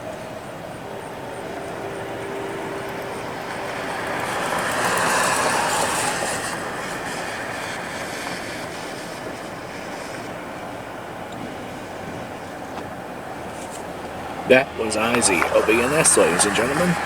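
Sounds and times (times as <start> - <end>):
freight train cars rolling on rails: 0.0 - 17.0.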